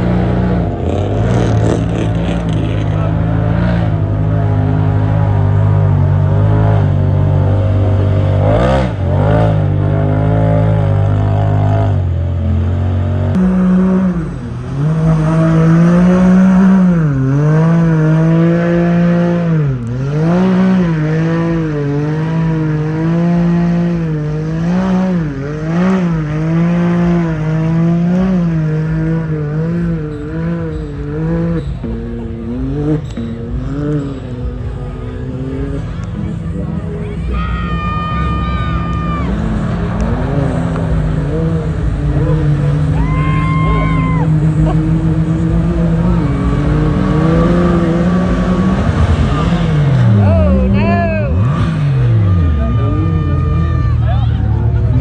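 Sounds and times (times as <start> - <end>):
low engine drone: 0.0 - 55.0
race engine revving: 0.0 - 55.0.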